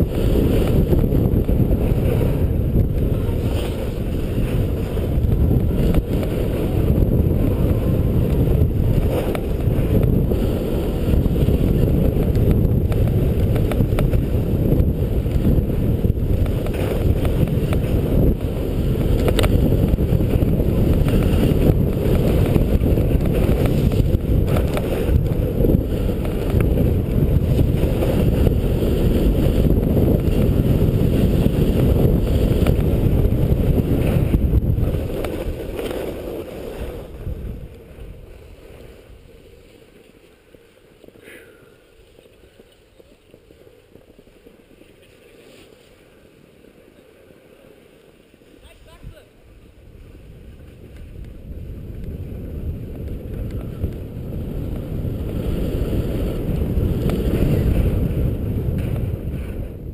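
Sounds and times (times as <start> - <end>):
wind buffeting microphone: 0.0 - 44.8, 48.6 - 59.9
skis sliding on packed snow: 0.0 - 59.9.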